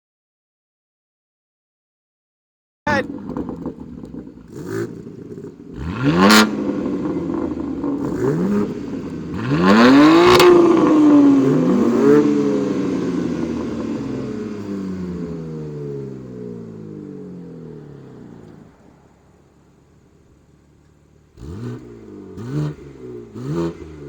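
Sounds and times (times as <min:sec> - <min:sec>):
car engine revving: 0:02.9 - 0:24.0.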